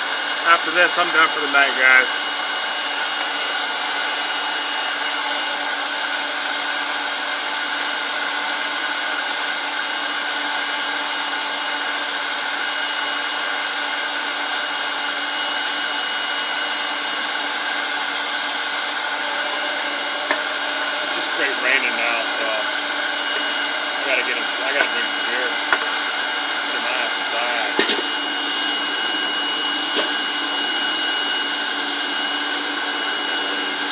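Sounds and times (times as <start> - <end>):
electric blower rushing air: 0.0 - 33.9.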